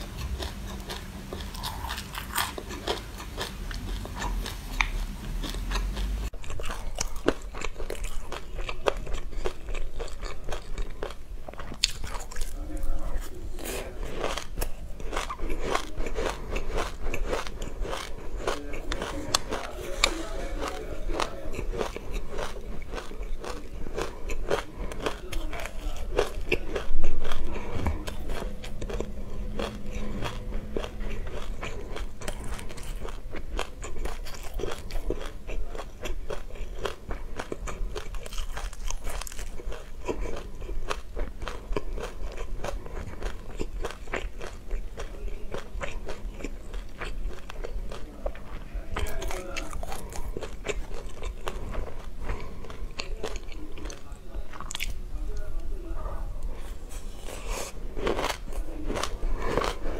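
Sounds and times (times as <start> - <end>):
chewing crunchy seeds: 0.0 - 59.9.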